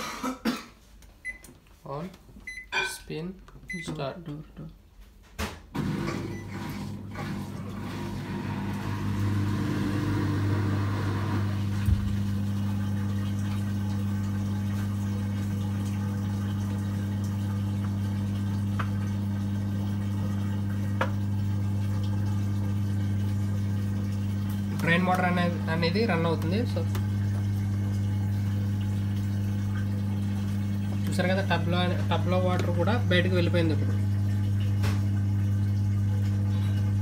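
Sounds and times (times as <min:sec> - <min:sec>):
washing machine electric hum: 0:00.0 - 0:37.0.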